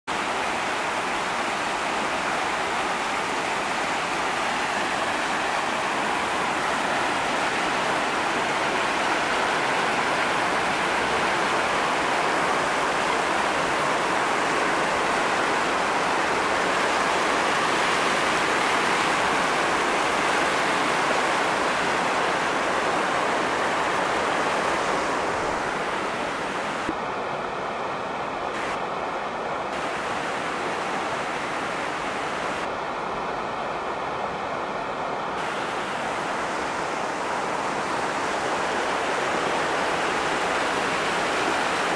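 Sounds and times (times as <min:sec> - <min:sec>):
floodwater rushing over rocks: 0:00.1 - 0:41.9.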